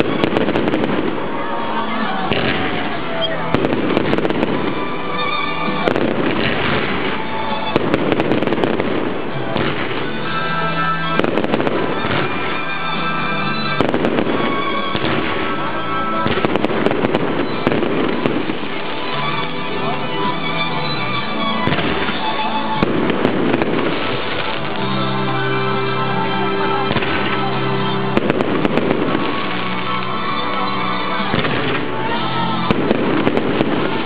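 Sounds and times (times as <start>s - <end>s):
music playing: 0.0s - 34.0s.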